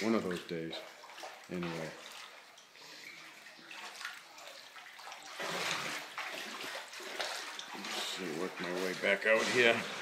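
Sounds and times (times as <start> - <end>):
floodwater sloshing and trickling: 0.0 - 10.0.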